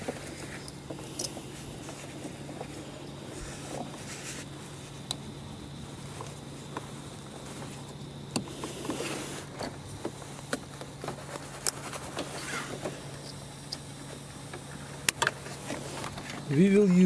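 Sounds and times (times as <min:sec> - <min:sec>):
steady low hum: 0:00.0 - 0:17.0
wires rustling: 0:00.0 - 0:17.0.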